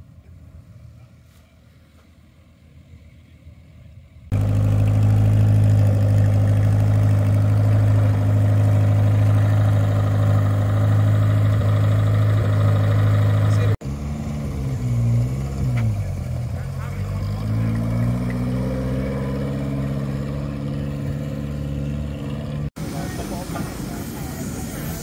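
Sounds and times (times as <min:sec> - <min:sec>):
engine running steadily: 0:03.0 - 0:25.0.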